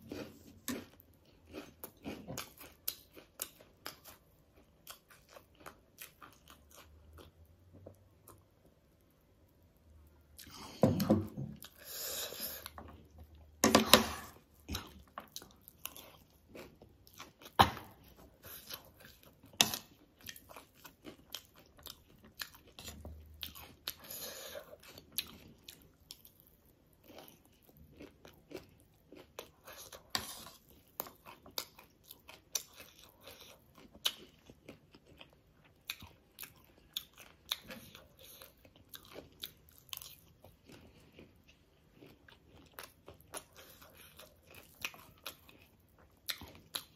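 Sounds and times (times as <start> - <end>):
crunching and chewing snacks: 0.0 - 8.6, 14.4 - 46.9.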